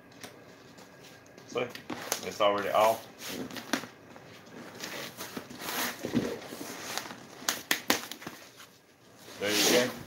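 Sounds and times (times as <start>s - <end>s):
vinyl cover rustling and crinkling: 0.1s - 10.0s.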